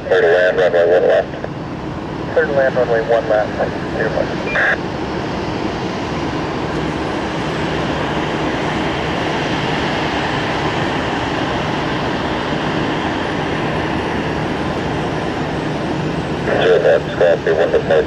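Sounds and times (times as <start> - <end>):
jet engines on takeoff: 0.0 - 18.0.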